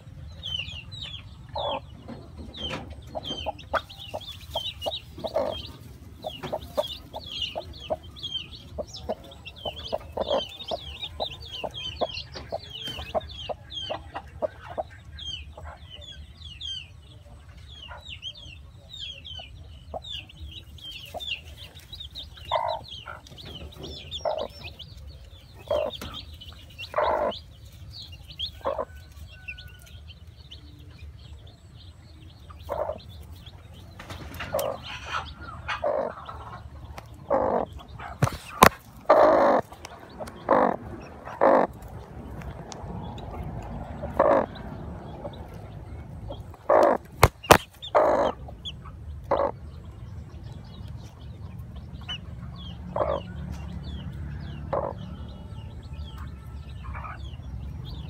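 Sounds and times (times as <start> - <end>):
hen clucking: 0.0 - 16.1, 17.2 - 29.9, 32.3 - 57.4
chicks peeping: 0.0 - 58.0.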